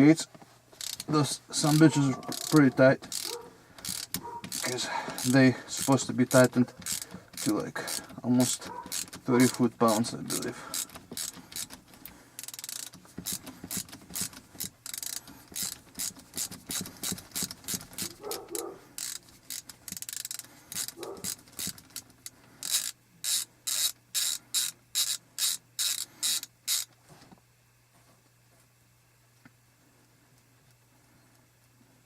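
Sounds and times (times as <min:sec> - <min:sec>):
ratchet clicking: 0:00.8 - 0:26.9.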